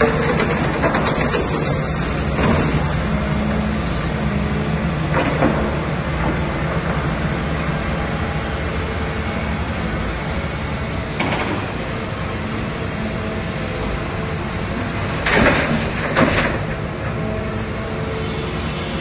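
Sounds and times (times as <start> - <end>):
excavator diesel engine under load: 0.0 - 19.0.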